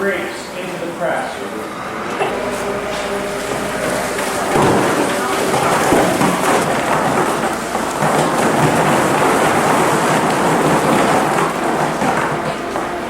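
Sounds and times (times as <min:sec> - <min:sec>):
frozen grapes pouring into a press: 0:02.3 - 0:13.0.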